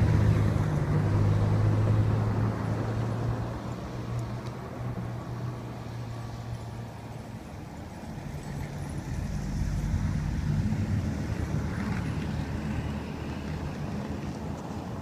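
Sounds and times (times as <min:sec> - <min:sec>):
vehicle engine passing by: 0:00.0 - 0:06.8, 0:08.1 - 0:14.4.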